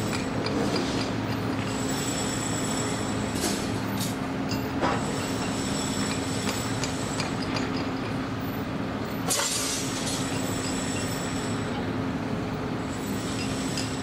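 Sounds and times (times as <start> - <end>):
electric train hum and rumble: 0.0 - 14.0.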